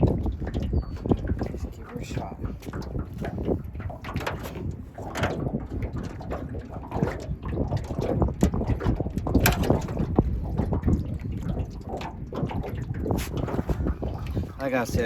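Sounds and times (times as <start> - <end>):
knocks and scrapes on metal boat: 0.0 - 15.0
water splashing: 0.0 - 15.0
wind buffeting microphone: 0.0 - 15.0.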